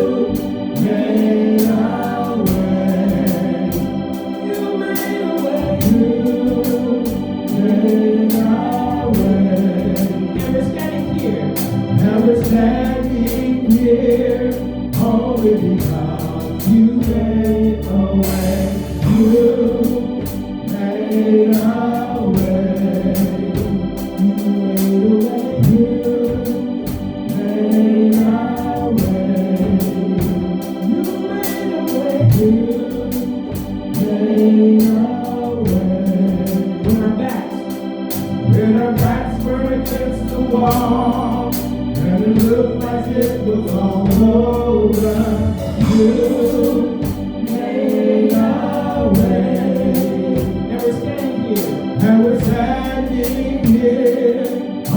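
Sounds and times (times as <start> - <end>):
gospel organ music: 0.0 - 54.9.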